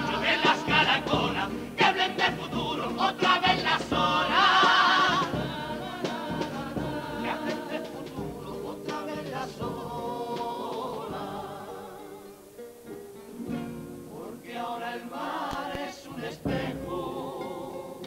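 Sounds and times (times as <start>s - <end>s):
male choir singing in harmony: 0.0s - 12.5s, 14.0s - 18.0s
acoustic guitars: 0.0s - 18.0s.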